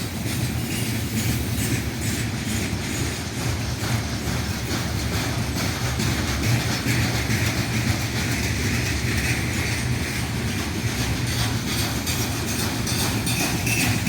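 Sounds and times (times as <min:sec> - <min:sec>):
freight train wheels clattering: 0:00.0 - 0:14.0.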